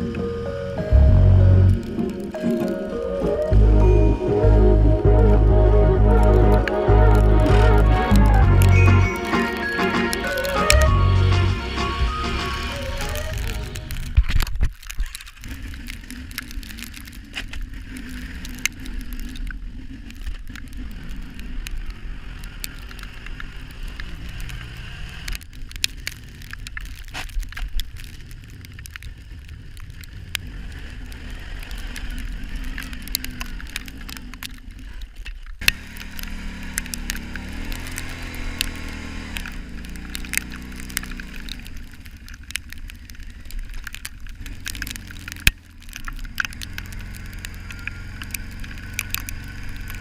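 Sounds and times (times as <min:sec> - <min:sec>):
atv engine running: 0:00.0 - 0:14.2, 0:15.4 - 0:50.0
crackles and clicks: 0:00.0 - 0:50.0.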